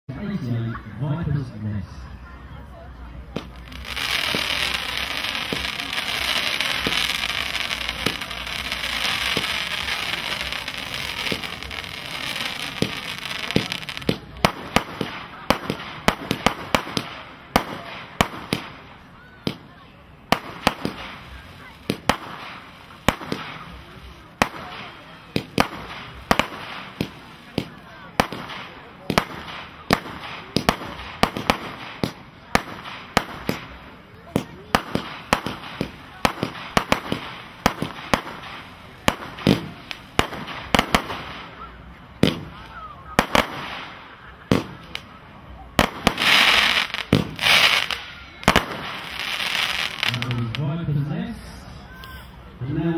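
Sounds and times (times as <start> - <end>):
firework crackling hiss: 3.2 - 50.6
firework launch pops: 3.3 - 18.8, 20.3 - 45.1, 45.8 - 49.2
firework sharp cracks: 3.3 - 50.6.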